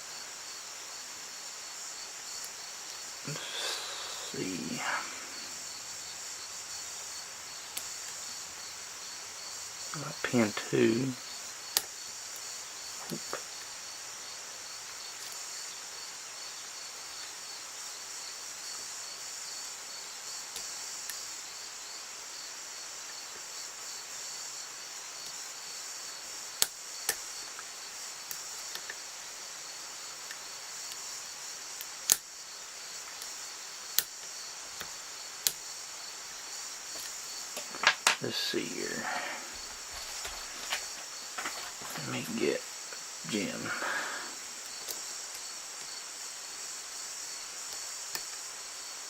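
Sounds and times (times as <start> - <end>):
insects chirring: 0.0 - 49.0.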